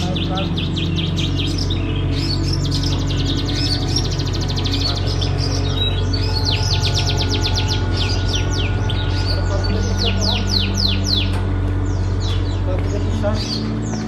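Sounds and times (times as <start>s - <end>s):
small songbirds chirping: 0.0s - 14.0s
steady low hum: 0.0s - 14.0s.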